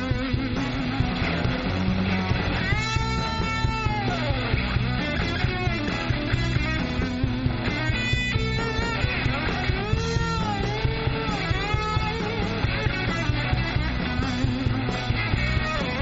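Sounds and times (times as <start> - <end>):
bass and drum groove: 0.0 - 16.0
lead guitar bending notes: 0.0 - 16.0.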